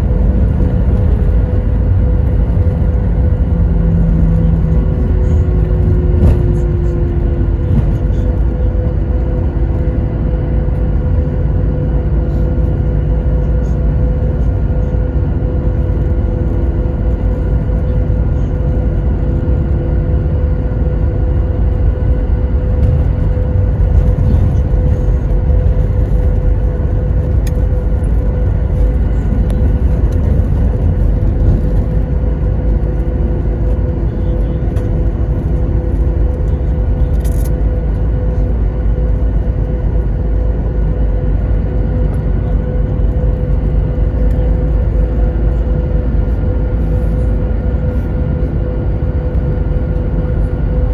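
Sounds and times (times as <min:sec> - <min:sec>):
constant hum: 0:00.0 - 0:50.9
jet engine rumble in cabin: 0:00.0 - 0:50.9.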